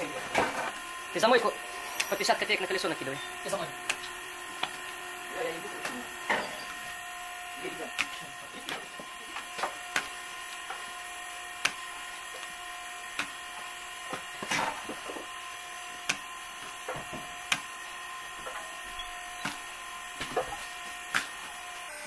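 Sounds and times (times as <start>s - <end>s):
steady machine hum: 0.0s - 22.0s
hand tools clicking and scraping: 3.2s - 7.0s, 7.6s - 21.8s.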